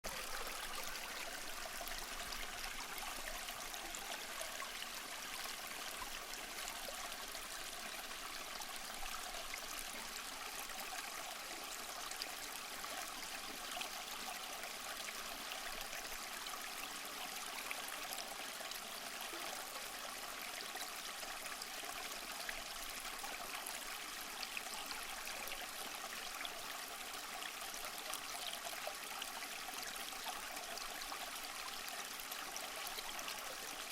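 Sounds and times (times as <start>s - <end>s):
stream trickling over stones: 0.0s - 33.9s.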